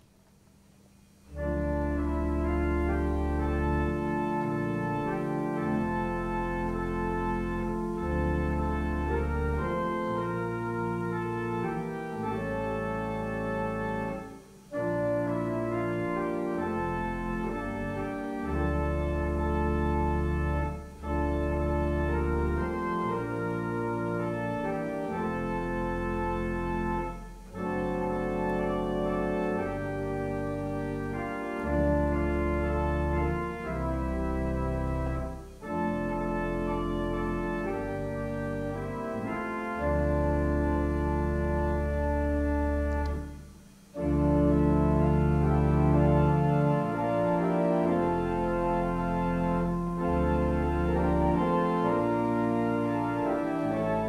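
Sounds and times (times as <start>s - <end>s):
church organ playing held chords: 1.1s - 54.0s.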